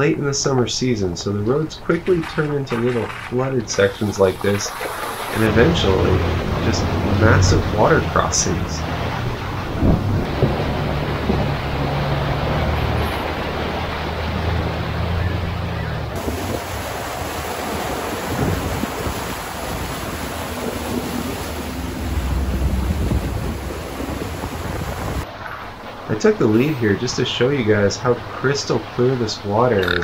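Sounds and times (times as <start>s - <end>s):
low engine hum: 1.1s - 25.4s
water splashing around tyres: 1.9s - 30.0s.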